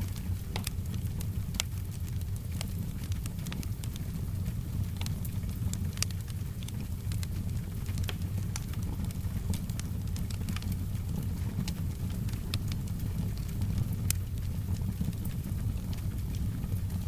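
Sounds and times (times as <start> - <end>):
soft rain: 0.0 - 17.0
wood fire crackling and popping: 0.0 - 17.0.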